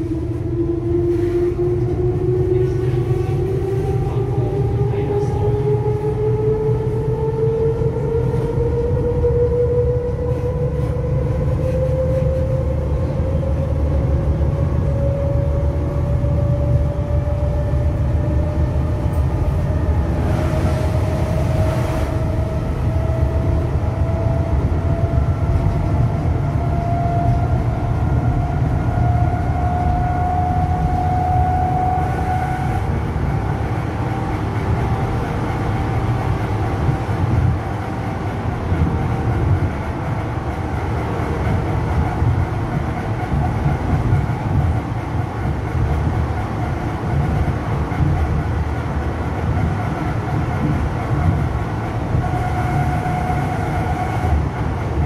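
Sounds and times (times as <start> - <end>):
train running gear rumble: 0.0 - 55.0.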